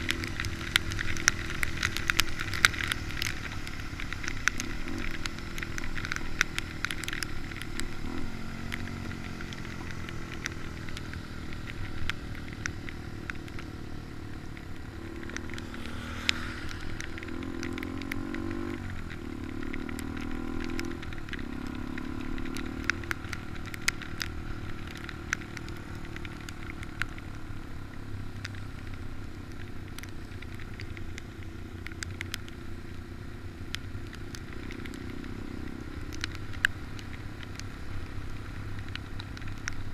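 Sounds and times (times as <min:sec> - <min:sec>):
sharp clicks and crackle: 0:00.0 - 0:39.9.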